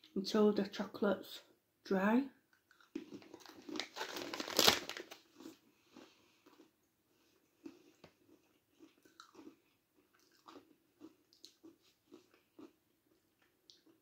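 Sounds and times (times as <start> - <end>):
soft crunching chews: 2.5 - 14.0.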